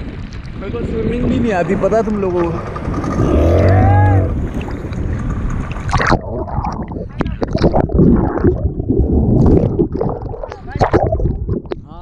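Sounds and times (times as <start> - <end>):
sea water splashing: 0.0 - 11.9
underwater gurgling and sloshing: 0.0 - 12.0.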